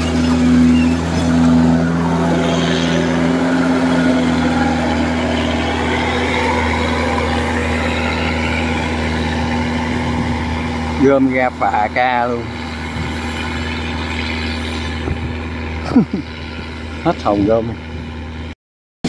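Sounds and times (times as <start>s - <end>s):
combine harvester engine drone: 0.0s - 18.5s.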